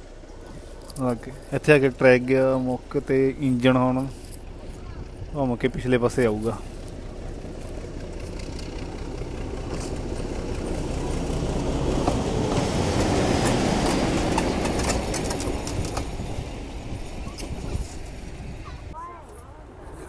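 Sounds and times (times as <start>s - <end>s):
diesel locomotive passing: 0.0s - 20.0s.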